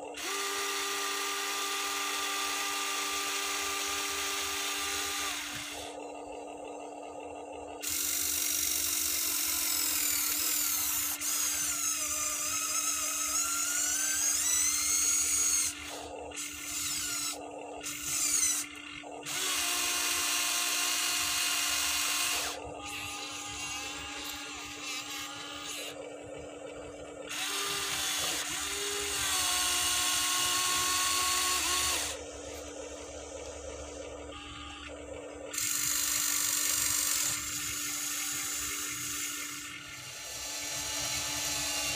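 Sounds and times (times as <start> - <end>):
small electric motors whining: 0.0 - 41.9
steady low hum: 0.0 - 41.9.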